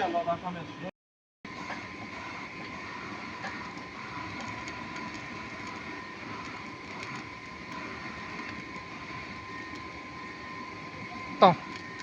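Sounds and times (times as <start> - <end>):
high-pitched furnace whine: 1.5 - 12.0.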